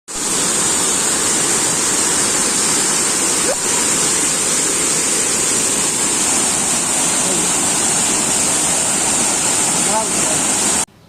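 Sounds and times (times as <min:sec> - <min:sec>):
waterfall roaring: 0:00.1 - 0:10.9.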